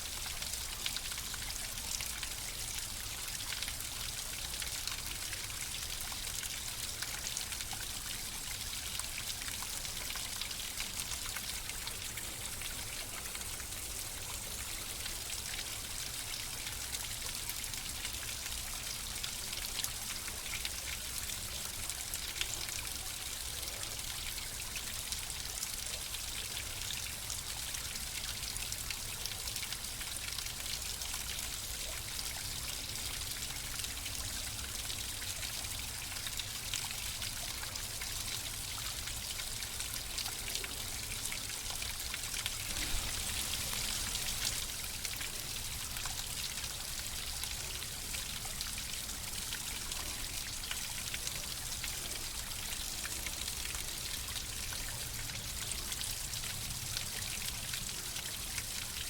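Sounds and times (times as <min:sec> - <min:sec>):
trickling stream: 0:00.0 - 0:59.0.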